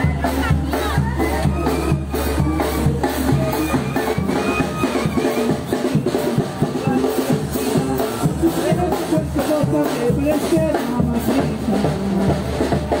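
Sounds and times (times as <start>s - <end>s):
bass drum and snare beat: 0.0s - 13.0s.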